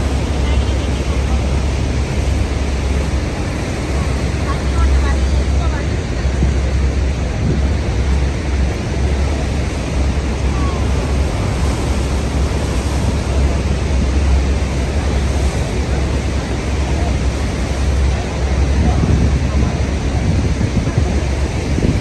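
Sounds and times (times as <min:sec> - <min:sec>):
waterfall rushing: 0:00.0 - 0:22.0
wind on microphone: 0:00.0 - 0:22.0.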